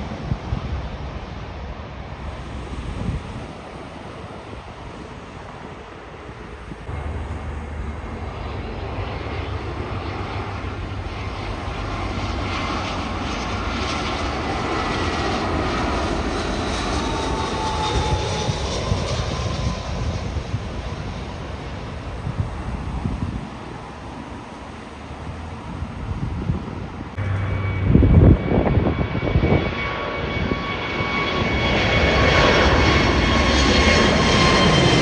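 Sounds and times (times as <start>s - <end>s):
jet engine whine: 0.0s - 35.0s
jet engines rumbling: 0.0s - 35.0s.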